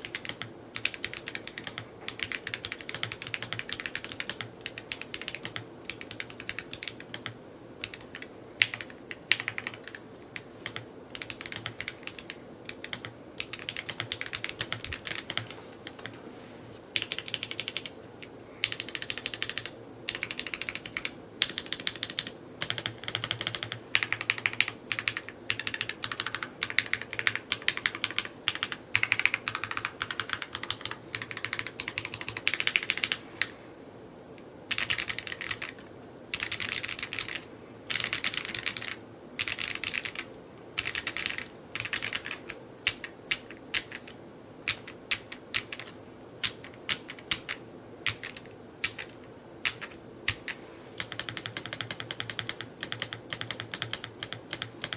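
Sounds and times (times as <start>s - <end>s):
mechanical keyboard typing: 0.0s - 16.2s, 17.0s - 33.5s, 34.7s - 54.9s.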